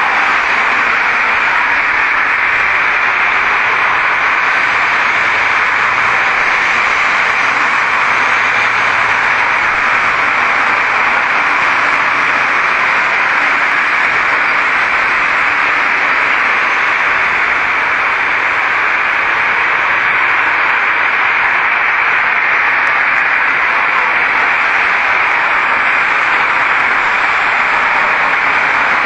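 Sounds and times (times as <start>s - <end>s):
loud steady hiss: 0.0s - 29.0s.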